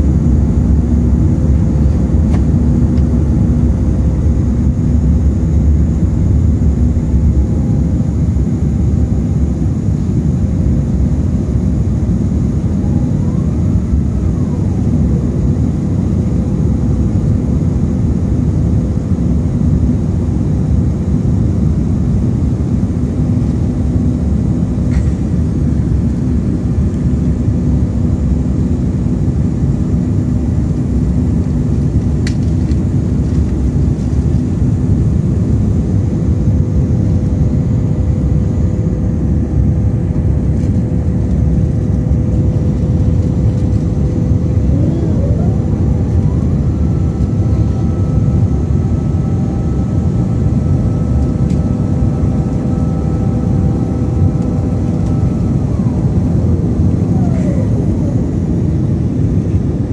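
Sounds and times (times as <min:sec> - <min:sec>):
faint steady hum: 0:00.0 - 0:59.9
jet engine cabin rumble: 0:00.0 - 0:59.9.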